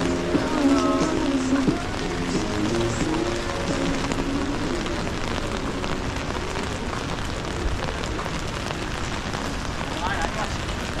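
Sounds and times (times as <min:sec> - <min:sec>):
rain falling on street: 0:00.0 - 0:11.0
raindrop ticks: 0:00.0 - 0:11.0.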